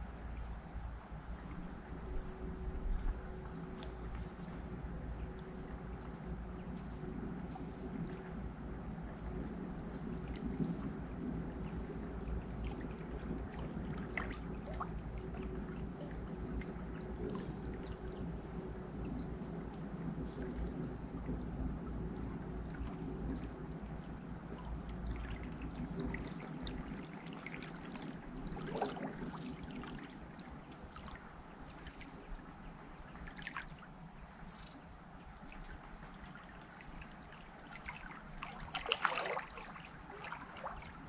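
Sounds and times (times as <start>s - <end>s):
river water flowing: 0.0s - 41.0s.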